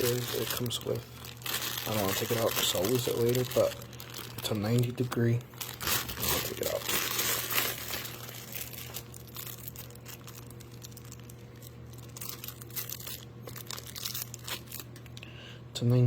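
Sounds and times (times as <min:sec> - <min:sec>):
plastic packaging crinkling: 0:00.0 - 0:15.3
faint steady hum: 0:00.0 - 0:16.0.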